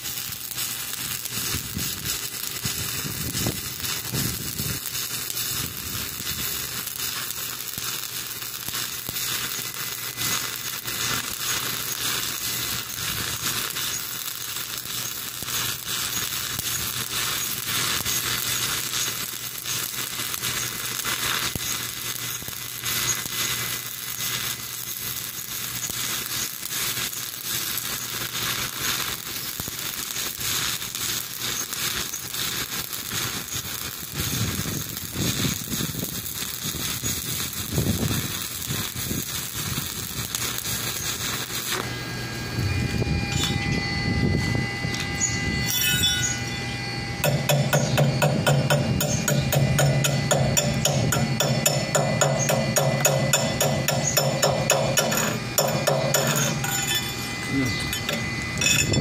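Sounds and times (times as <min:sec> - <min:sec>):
welding arc crackling: 0:00.0 - 0:59.0.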